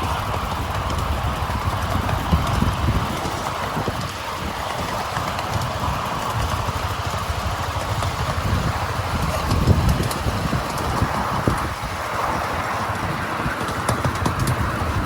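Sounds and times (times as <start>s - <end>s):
miniature train rumbling: 0.0s - 15.0s.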